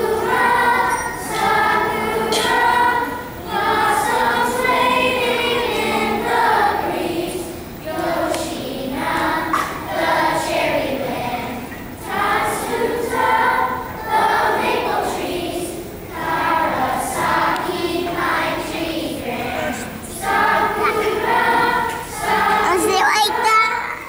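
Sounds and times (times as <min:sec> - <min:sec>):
children's choir singing: 0:00.0 - 0:24.0.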